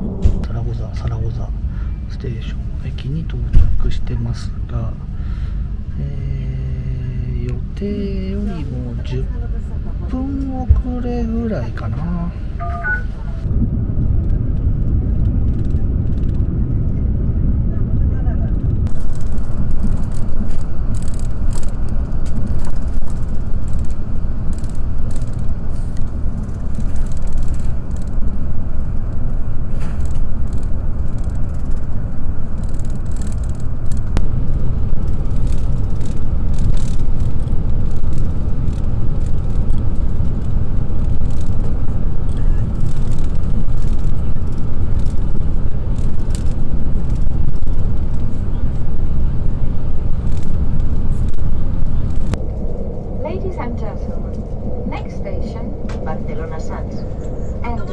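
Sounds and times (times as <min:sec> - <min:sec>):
train interior rumble: 0:00.0 - 0:57.9.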